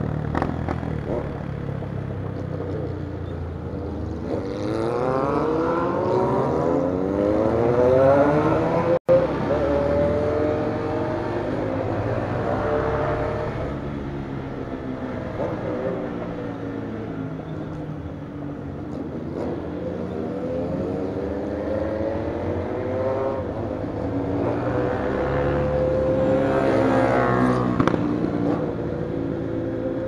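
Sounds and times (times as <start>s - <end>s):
motorcycle engine accelerating: 0.0s - 3.0s, 4.0s - 17.0s, 19.2s - 30.0s.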